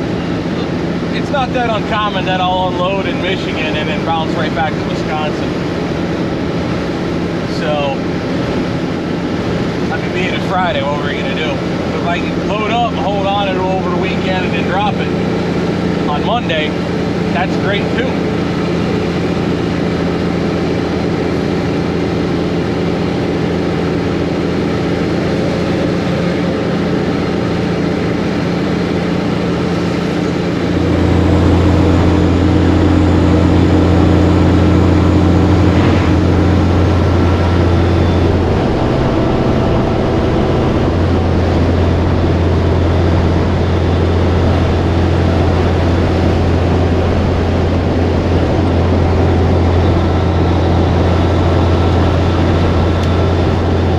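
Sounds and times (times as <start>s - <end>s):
deep loud drone: 0.0s - 53.9s
diesel truck engine running: 0.0s - 53.9s.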